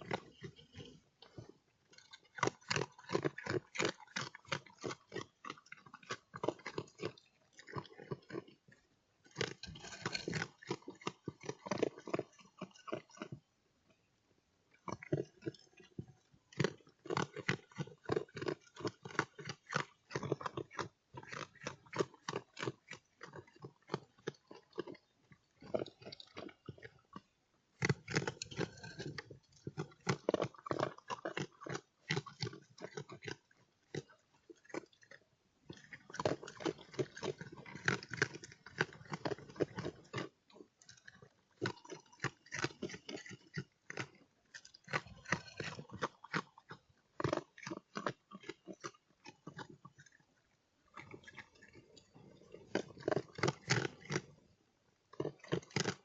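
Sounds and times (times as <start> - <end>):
animal chewing and crunching food: 0.0 - 56.0.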